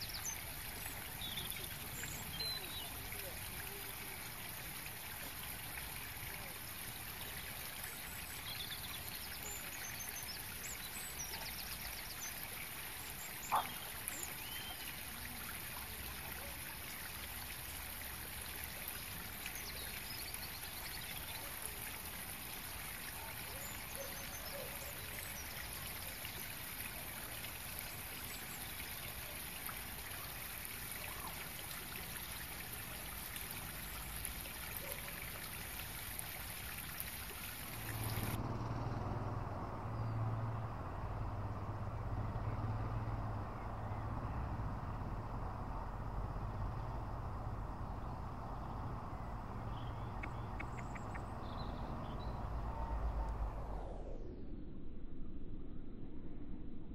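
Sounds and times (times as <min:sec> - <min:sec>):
small birds chirping: 0:00.0 - 0:04.4, 0:06.3 - 0:16.8, 0:18.6 - 0:53.7
steady outdoor hiss: 0:00.0 - 0:54.2.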